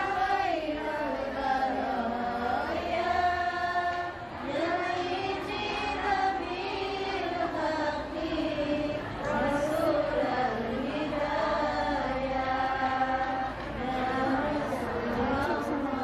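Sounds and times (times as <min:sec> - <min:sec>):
women chanting in unison: 0:00.0 - 0:16.0.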